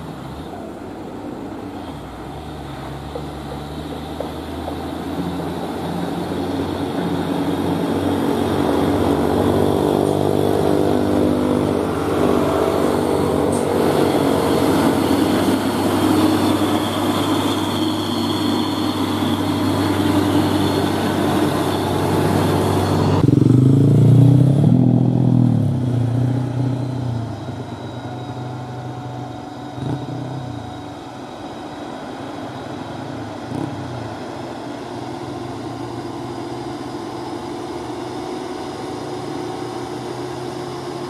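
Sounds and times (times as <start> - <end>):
diesel truck engines: 0.0 - 41.0.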